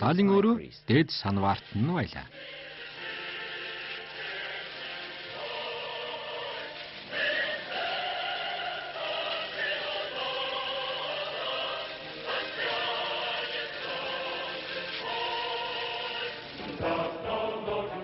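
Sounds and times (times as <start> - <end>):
choir singing held notes: 1.8 - 18.0.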